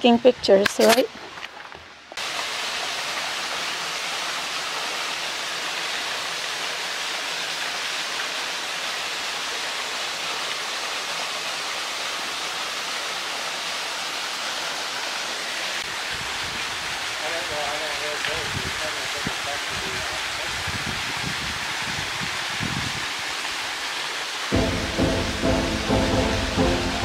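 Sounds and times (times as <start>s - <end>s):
waterfall pouring onto rocks: 2.2s - 24.6s.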